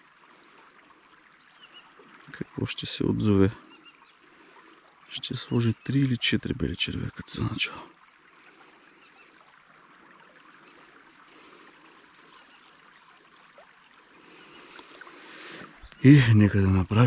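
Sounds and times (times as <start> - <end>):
shallow river flowing over stones: 0.0 - 17.0.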